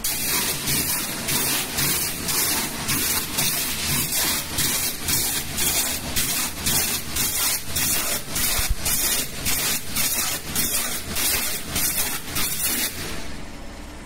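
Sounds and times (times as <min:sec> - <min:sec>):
high-pressure water jet hissing: 0:00.0 - 0:13.4.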